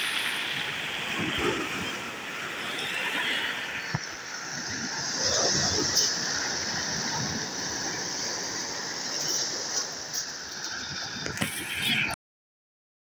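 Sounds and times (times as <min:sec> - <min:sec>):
waves washing over pebbles: 0:00.0 - 0:11.9.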